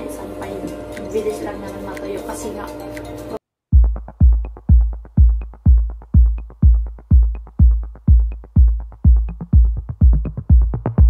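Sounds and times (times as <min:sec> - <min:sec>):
background music with kick drum: 0:00.7 - 0:11.0.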